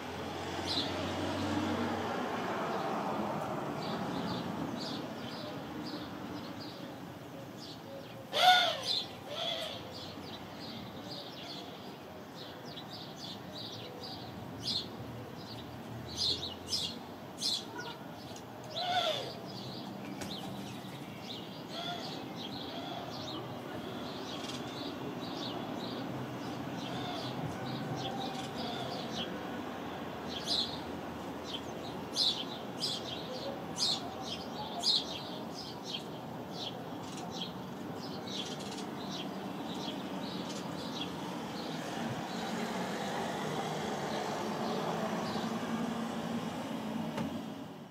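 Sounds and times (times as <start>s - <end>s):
sparrows chirping: 0.2s - 3.0s, 3.8s - 46.1s.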